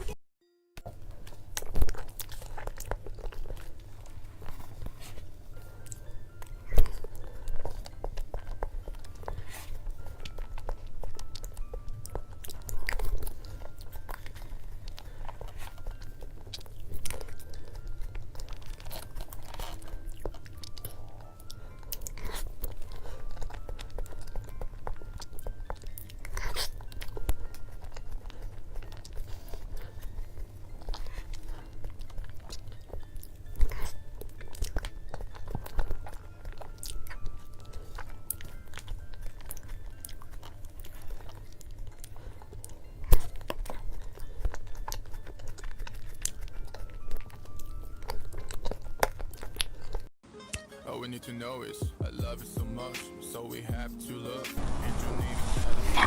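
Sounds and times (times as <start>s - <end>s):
faint background music: 0.0s - 56.0s
person biting and chewing: 0.8s - 50.1s.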